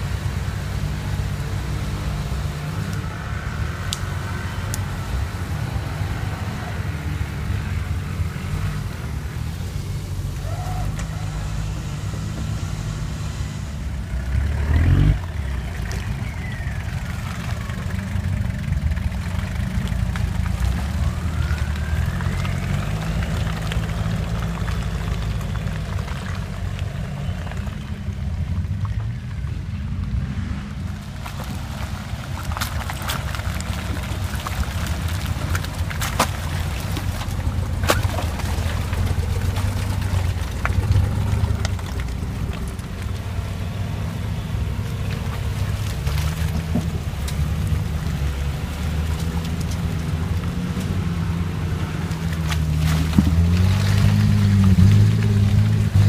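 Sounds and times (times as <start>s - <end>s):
off-road engines at low revs: 0.0s - 56.0s.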